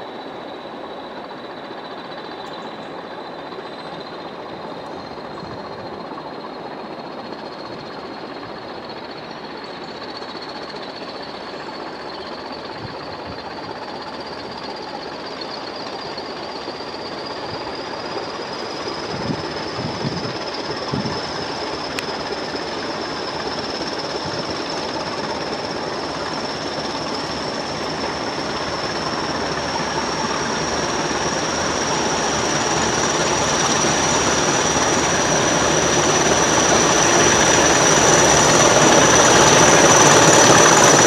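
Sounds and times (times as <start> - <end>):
diesel locomotive running: 0.0 - 41.0.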